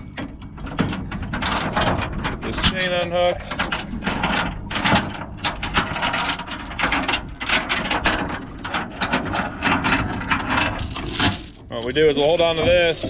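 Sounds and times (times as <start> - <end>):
anchor chain clanking on metal: 0.0 - 13.0.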